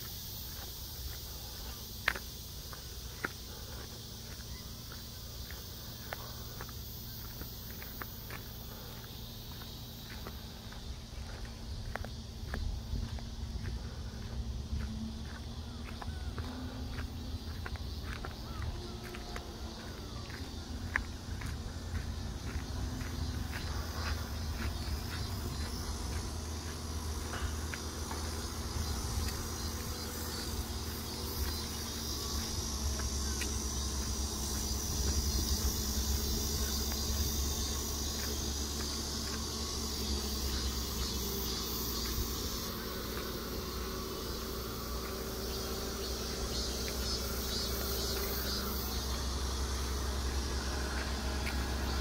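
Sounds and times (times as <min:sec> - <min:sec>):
insects singing: 0:00.0 - 0:52.0.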